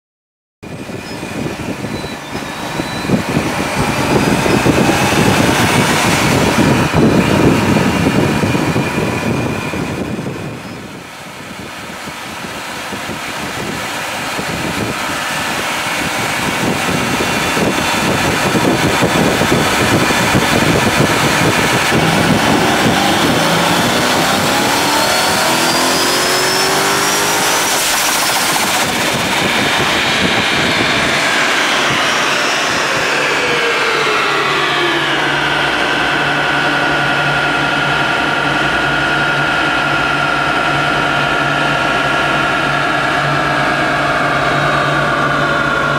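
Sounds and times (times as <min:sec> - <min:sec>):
engine revving on a dyno: 0:00.6 - 0:45.9
supercharger whining: 0:00.6 - 0:45.9.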